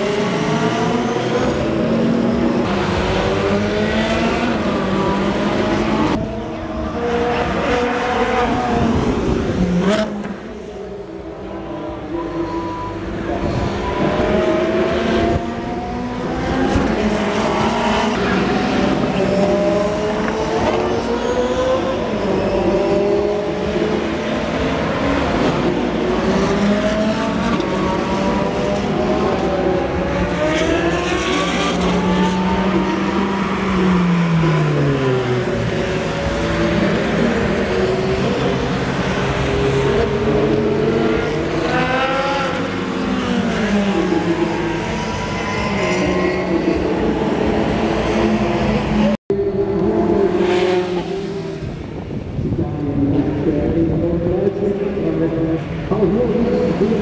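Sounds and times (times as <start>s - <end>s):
cars passing: 0.0s - 57.0s
sports car engines racing: 0.0s - 57.0s.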